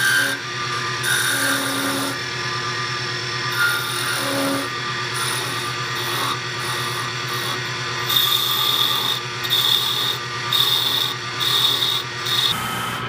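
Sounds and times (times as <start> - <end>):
chisel scraping spinning wood: 0.0 - 2.6, 3.3 - 13.0
wood lathe motor hum: 0.0 - 13.0.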